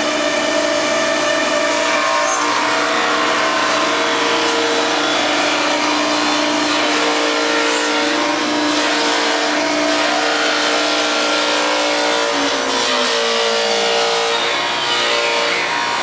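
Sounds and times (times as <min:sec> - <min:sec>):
cnc router running: 0:00.0 - 0:16.0.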